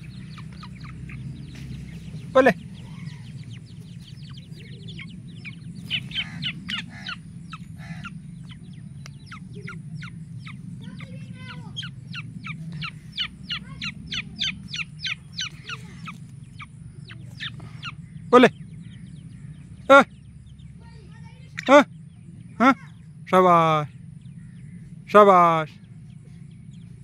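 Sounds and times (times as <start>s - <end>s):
birds chirping high: 0.0s - 27.0s
steady low hum: 0.0s - 27.0s.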